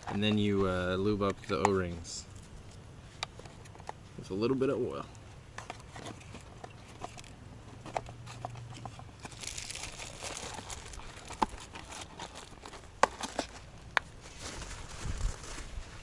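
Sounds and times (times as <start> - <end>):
hands rustling and crinkling parts: 0.0 - 16.0.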